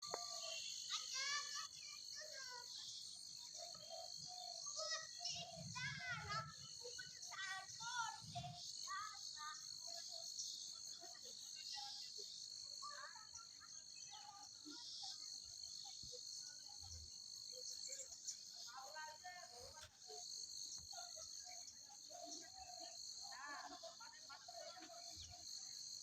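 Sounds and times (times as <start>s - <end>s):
crickets and insects chorus: 0.0s - 26.0s.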